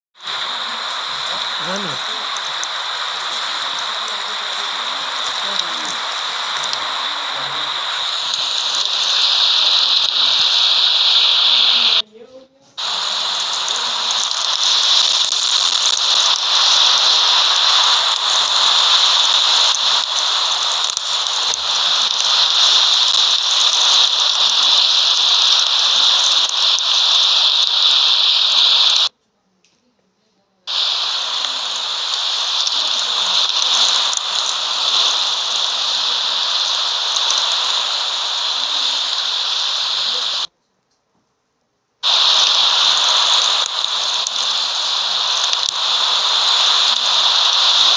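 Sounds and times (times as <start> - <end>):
snowstorm wind rushing: 0.2 - 12.0, 12.8 - 29.1, 30.7 - 40.5, 42.0 - 47.9.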